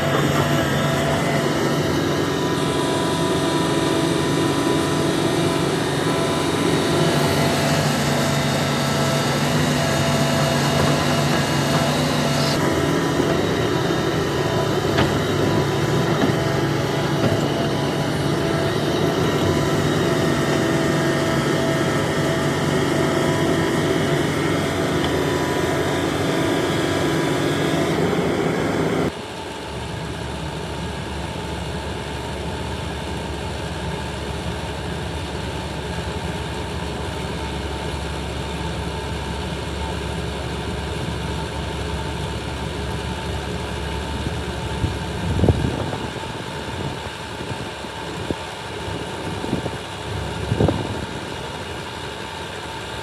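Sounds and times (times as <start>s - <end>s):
deep engine sound: 0.0s - 53.0s
excavator diesel engine running: 0.0s - 53.0s.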